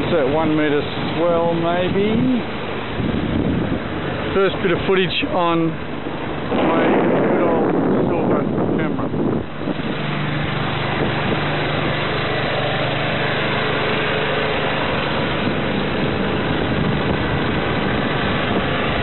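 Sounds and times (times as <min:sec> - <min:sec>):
steady low hum: 0:00.0 - 0:19.0
water splashing along boat hull: 0:00.0 - 0:19.0.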